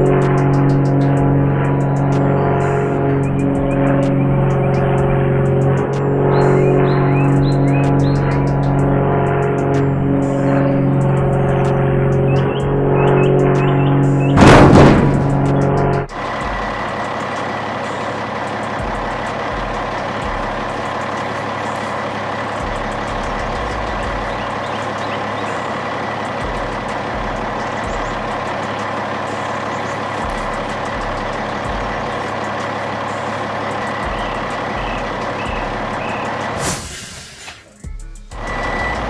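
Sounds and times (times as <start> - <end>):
truck engine running: 0.0 - 37.2, 37.9 - 39.0
high-pitched whine: 0.0 - 37.5, 38.3 - 39.0.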